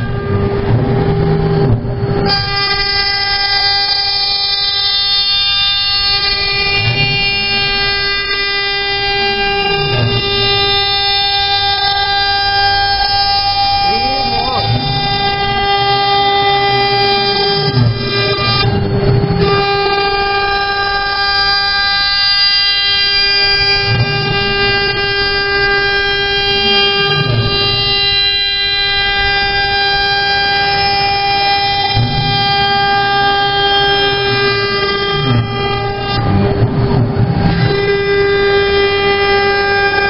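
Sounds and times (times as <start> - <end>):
low rising and falling machine sound: 0.0 - 40.0
router spindle whining: 0.0 - 40.0.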